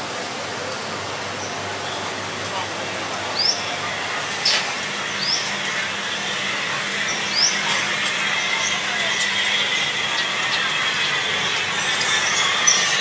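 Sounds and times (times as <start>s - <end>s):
steady background hum: 0.1s - 13.0s
small birds chirping: 1.4s - 13.0s.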